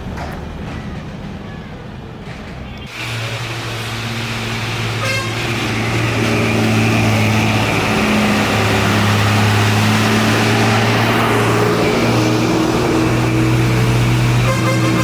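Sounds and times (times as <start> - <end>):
heavy truck engine labouring: 0.0 - 15.0.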